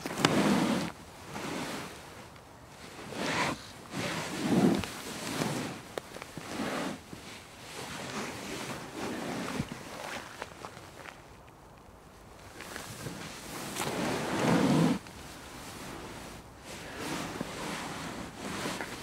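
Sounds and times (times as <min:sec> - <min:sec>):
rustling of couch cushions: 0:00.0 - 0:11.1, 0:12.5 - 0:19.0.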